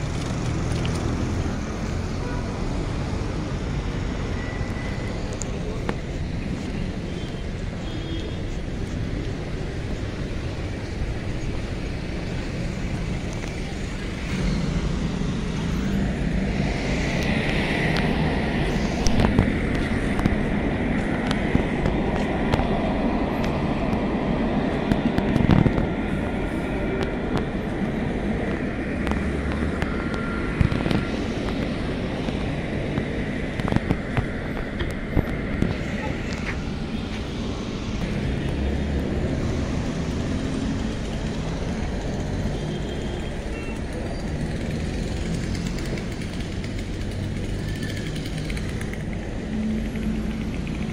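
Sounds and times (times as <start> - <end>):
low traffic rumble: 0.0 - 50.9
tram whining by: 0.0 - 50.9.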